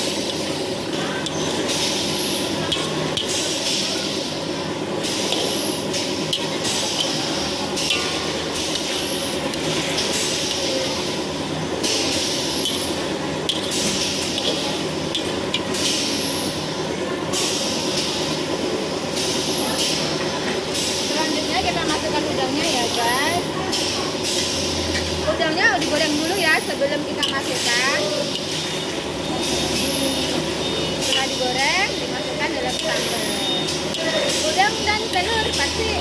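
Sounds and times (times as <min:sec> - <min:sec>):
food frying in hot oil: 0:00.0 - 0:36.0.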